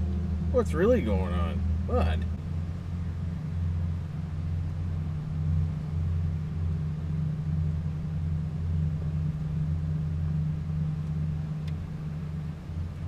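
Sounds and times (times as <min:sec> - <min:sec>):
low motor drone: 0:00.0 - 0:13.0.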